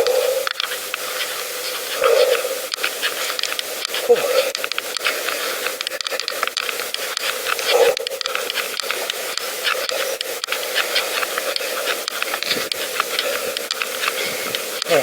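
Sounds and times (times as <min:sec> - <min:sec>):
bicycle rattling clicks: 0:00.0 - 0:15.0
bicycle tyre rolling hiss: 0:00.0 - 0:15.0.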